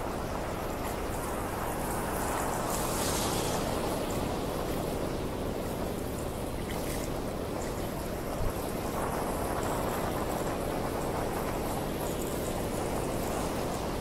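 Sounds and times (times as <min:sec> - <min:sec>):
bicycle tyres swishing on wet road: 0:00.0 - 0:14.0.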